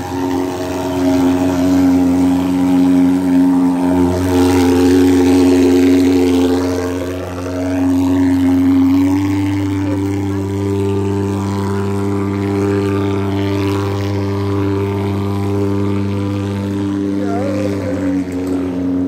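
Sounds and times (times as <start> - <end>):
fogging machine buzzing drone: 0.0 - 19.0.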